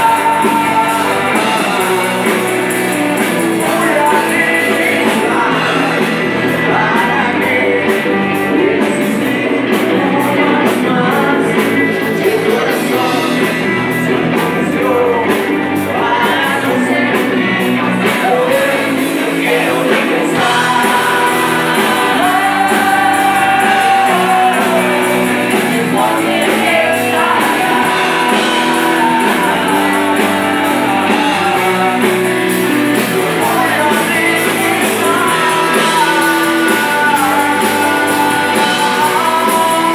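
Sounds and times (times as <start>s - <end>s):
bass guitar: 0.0s - 39.9s
drum kit: 0.0s - 39.9s
electric guitars: 0.0s - 39.9s
man singing: 0.0s - 39.9s.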